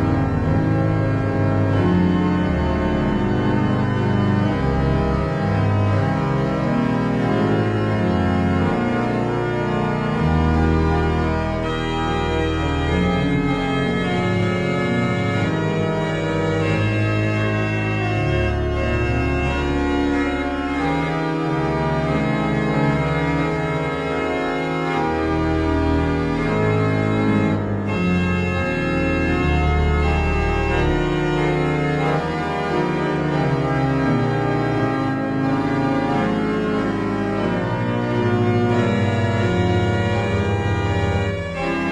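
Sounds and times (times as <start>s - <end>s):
sustained organ-like chords: 0.0s - 41.9s.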